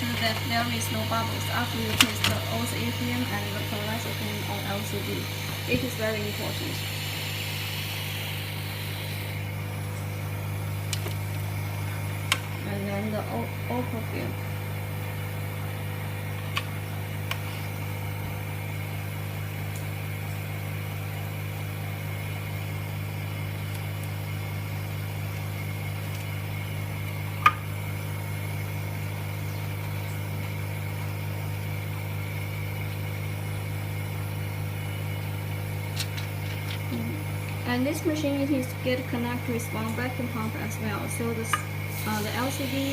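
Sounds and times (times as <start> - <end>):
vacuum pump humming: 0.0 - 42.9.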